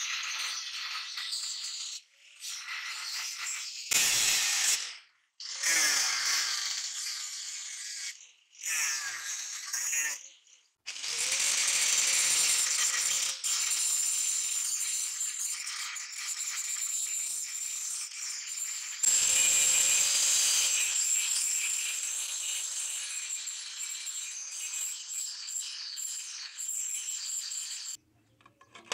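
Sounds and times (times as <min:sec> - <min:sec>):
angle grinder cutting metal: 0:00.0 - 0:10.3, 0:10.9 - 0:28.0.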